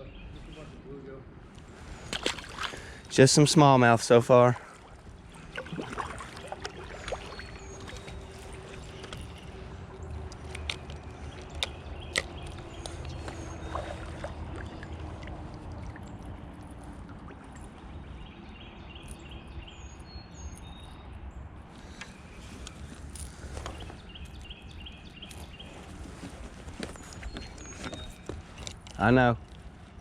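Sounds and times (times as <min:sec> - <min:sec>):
water moving around kayak: 0:01.6 - 0:18.2, 0:21.8 - 0:30.0.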